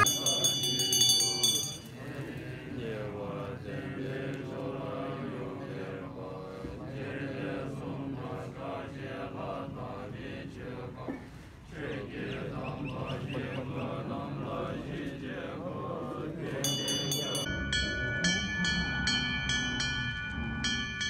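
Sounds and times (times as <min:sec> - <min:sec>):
monks chanting: 0:00.0 - 0:19.6.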